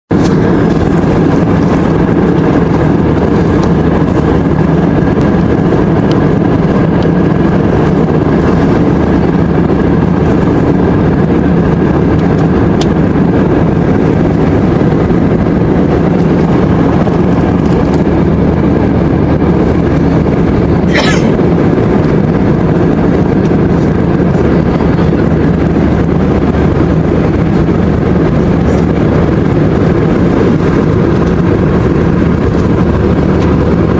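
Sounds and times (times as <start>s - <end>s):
airliner cabin drone: 0.1s - 33.9s.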